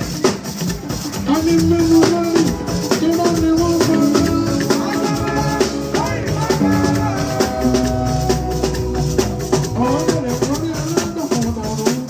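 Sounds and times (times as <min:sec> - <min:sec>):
drums and shakers: 0:00.0 - 0:12.0
party band music: 0:00.0 - 0:12.0
held instrument tones: 0:01.1 - 0:12.0.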